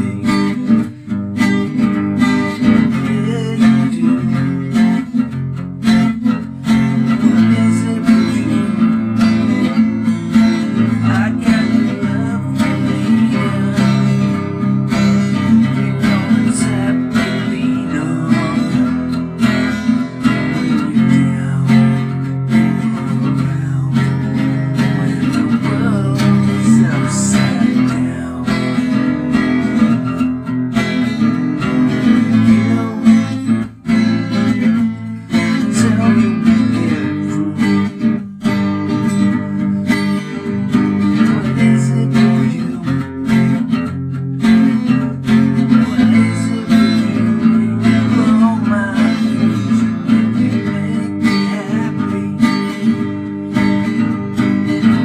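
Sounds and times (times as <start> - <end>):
man singing: 0.0 - 55.0
strummed acoustic guitar: 0.0 - 55.0.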